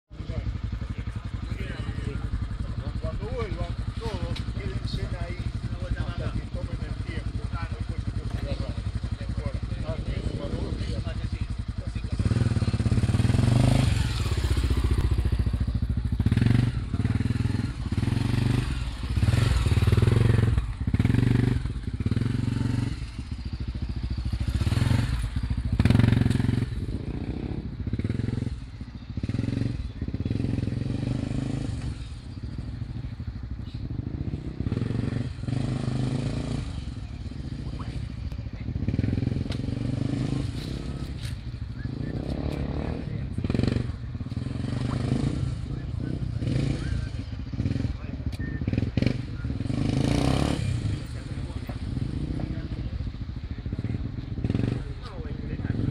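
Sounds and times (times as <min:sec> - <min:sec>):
motorcycle engine revving: 0:00.1 - 0:55.9.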